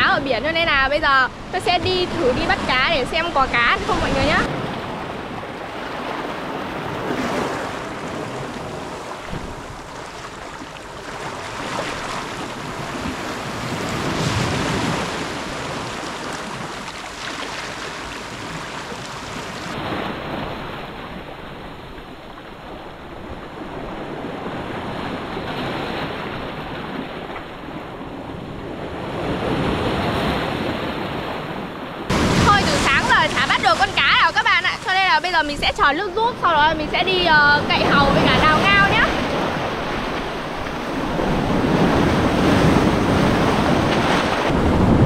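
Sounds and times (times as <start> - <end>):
surf washing over rocks: 0.0 - 27.7, 32.0 - 45.0.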